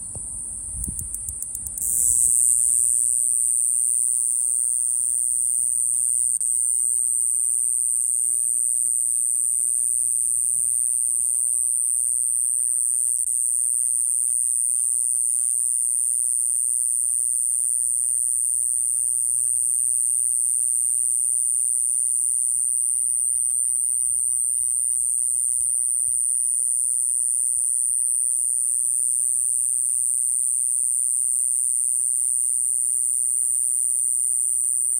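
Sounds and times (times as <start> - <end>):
cicada clicking and buzzing: 0.0 - 34.9.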